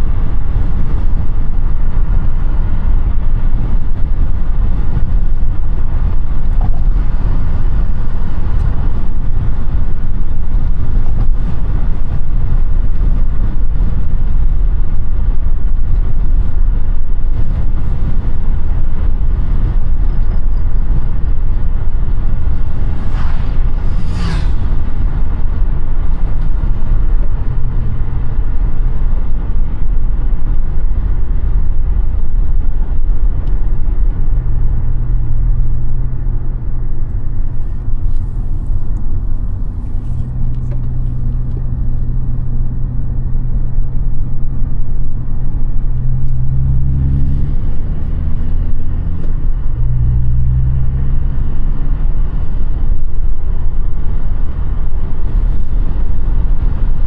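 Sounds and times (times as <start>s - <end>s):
car engine hum: 0.0s - 57.0s
road rumble: 0.0s - 57.0s.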